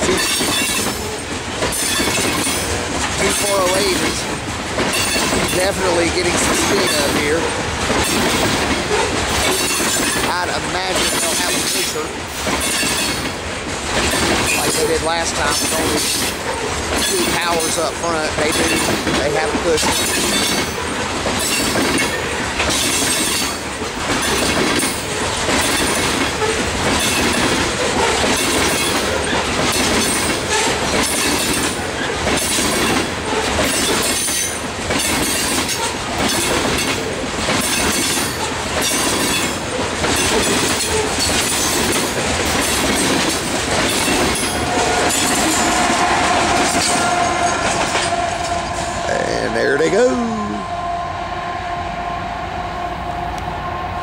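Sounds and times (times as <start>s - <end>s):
train wheels clacking over rail joints: 0.0s - 49.0s
locomotive engine hum: 0.0s - 54.0s.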